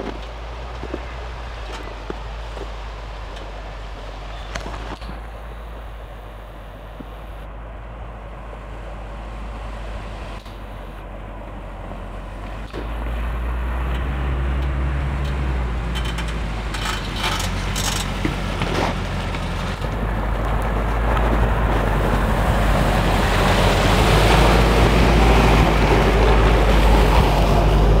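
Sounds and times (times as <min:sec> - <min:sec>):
off-road vehicle engine running: 0:00.0 - 0:28.0
tires through slush: 0:00.0 - 0:28.0.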